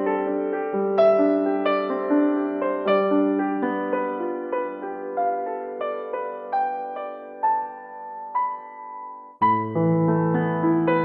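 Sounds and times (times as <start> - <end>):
solo piano notes: 0.0 - 11.0.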